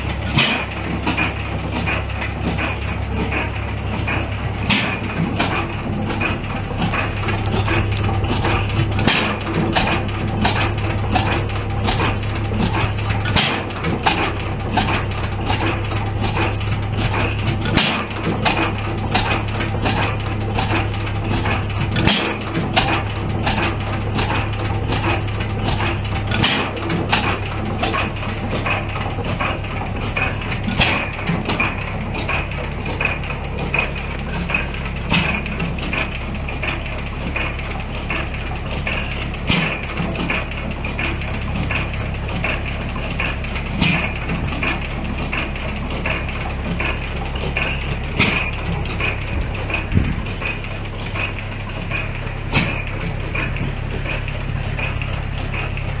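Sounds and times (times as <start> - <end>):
engine low hum: 0.0 - 56.0
metallic clatter: 0.0 - 56.0
stationary engine exhaust pops: 0.0 - 56.0.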